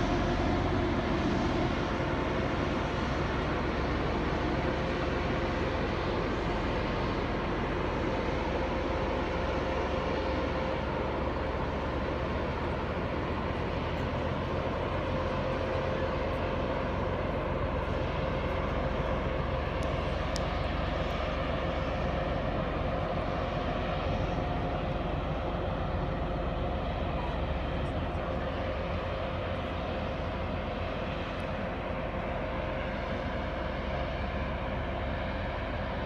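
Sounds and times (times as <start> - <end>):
ship engines droning: 0.0 - 36.0.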